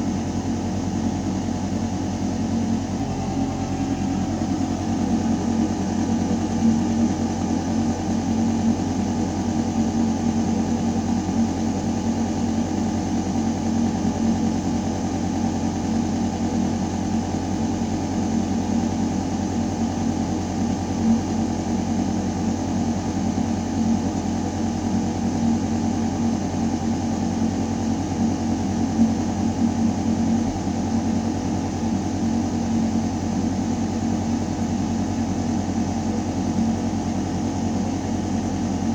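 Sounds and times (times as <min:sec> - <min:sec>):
ventilation mechanical hum: 0:00.0 - 0:38.9.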